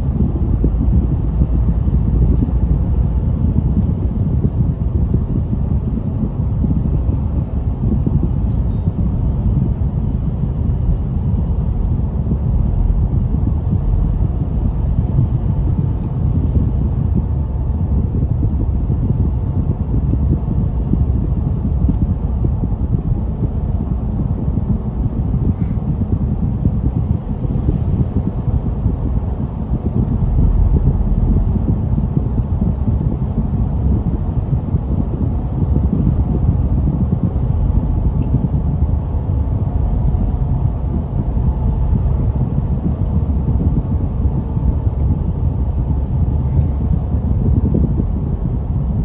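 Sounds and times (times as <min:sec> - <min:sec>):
car driving interior rumble: 0:00.0 - 0:49.0.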